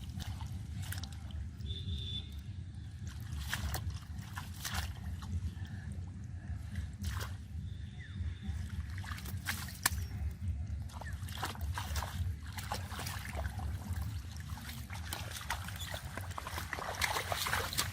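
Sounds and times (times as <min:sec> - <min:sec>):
muddy water sloshing and splashing: 0:00.0 - 0:17.9
steady low rumble: 0:00.0 - 0:17.9
water drips: 0:00.0 - 0:17.9.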